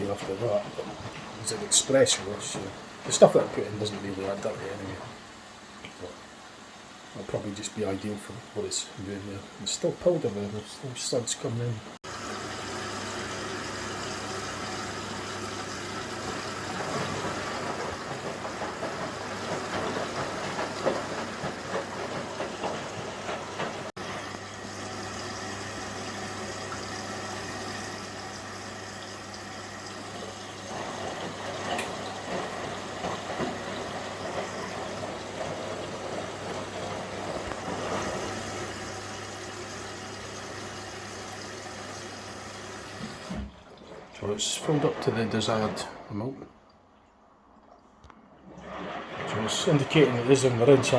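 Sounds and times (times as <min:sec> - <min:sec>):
drum churning wet load: 0:00.0 - 0:46.7, 0:47.5 - 0:50.9
washing machine filling with water: 0:00.0 - 0:50.9.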